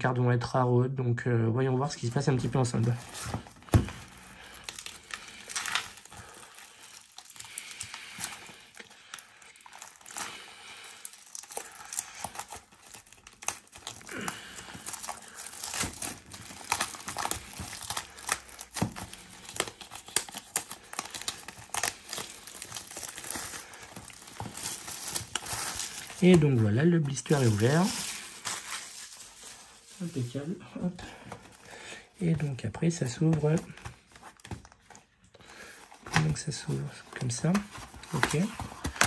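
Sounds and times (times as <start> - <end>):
plastic wrap crinkling: 1.8 - 39.0
plastic wrap tearing: 2.0 - 30.5, 33.2 - 39.0.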